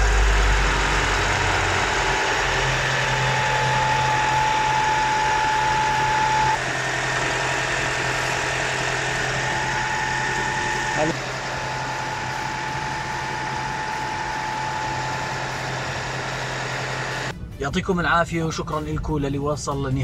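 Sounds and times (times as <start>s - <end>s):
car engine idling: 0.0s - 17.3s
thin steady whine: 0.0s - 17.3s.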